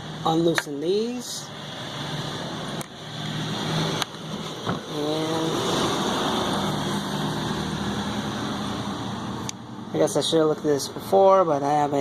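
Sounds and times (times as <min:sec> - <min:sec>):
mechanical hum with rushing noise: 0:00.0 - 0:12.0.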